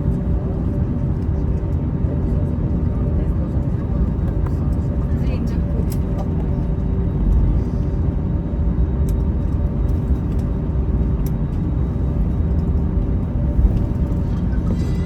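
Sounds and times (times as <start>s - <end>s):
airplane cabin rumble and hum: 0.0s - 15.0s.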